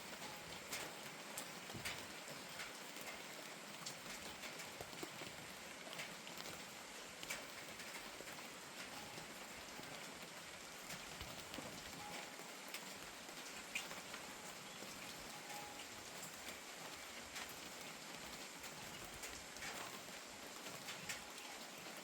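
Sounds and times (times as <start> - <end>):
light rain hissing: 0.0 - 22.0
raindrops striking a surface: 0.0 - 22.0.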